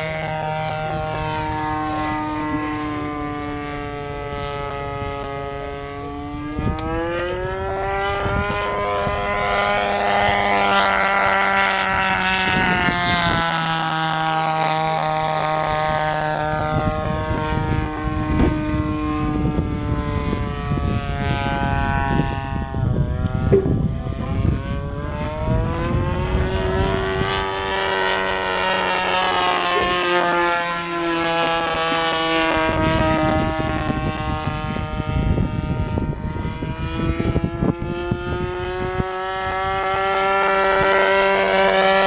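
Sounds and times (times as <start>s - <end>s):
model plane engine buzzing: 0.0s - 42.0s.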